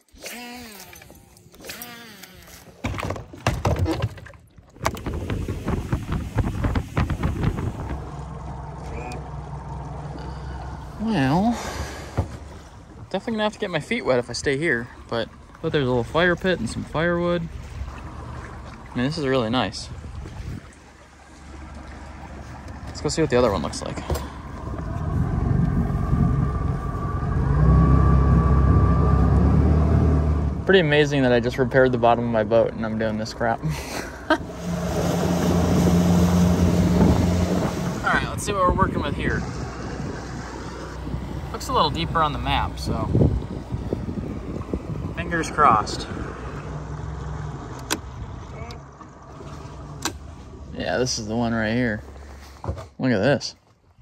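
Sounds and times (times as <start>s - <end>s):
outboard engine humming: 0.0s - 54.0s.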